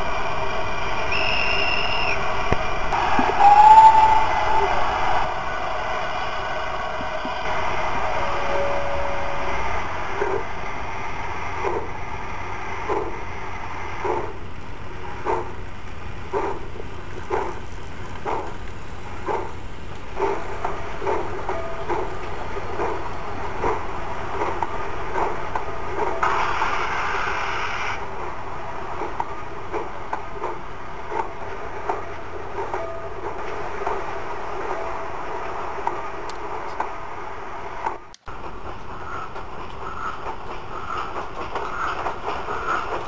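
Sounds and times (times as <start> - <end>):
model steam locomotive chuffing: 0.0 - 43.0.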